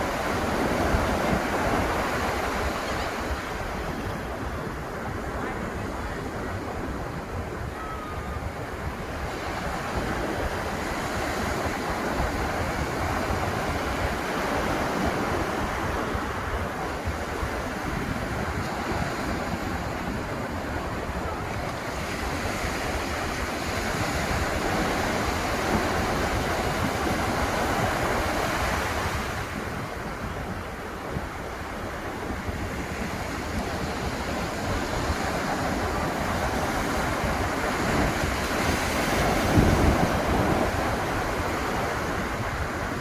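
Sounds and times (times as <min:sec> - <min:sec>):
surf breaking on beach: 0:00.0 - 0:43.0.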